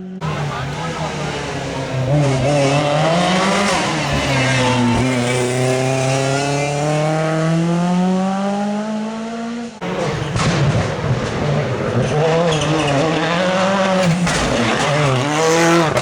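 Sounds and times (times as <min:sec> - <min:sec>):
rally car engine pulling hard: 0:00.0 - 0:16.0.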